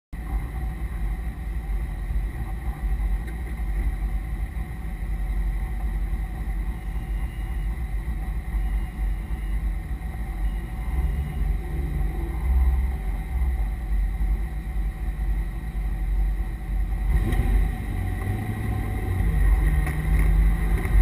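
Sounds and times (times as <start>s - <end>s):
car engine low rumble: 0.1s - 21.0s.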